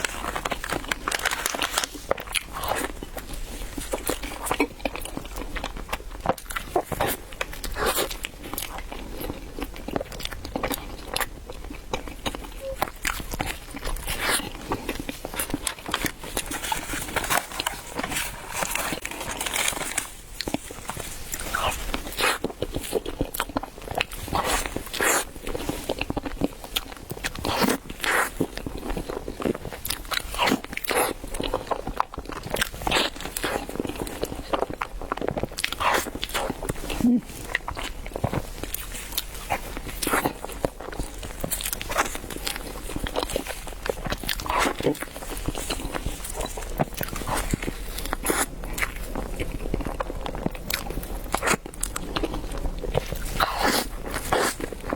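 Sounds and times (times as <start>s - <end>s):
person chewing bread: 0.0s - 54.9s.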